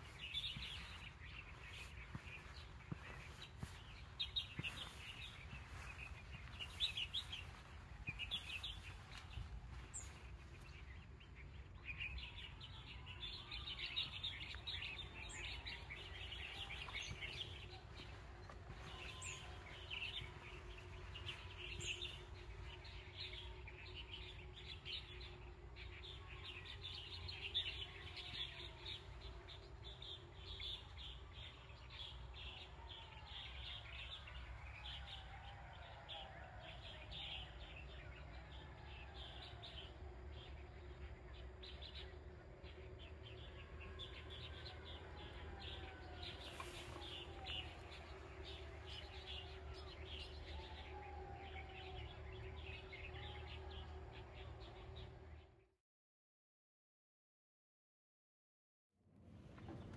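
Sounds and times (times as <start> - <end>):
birds chirping and twittering: 0.0 - 55.7, 59.2 - 59.9.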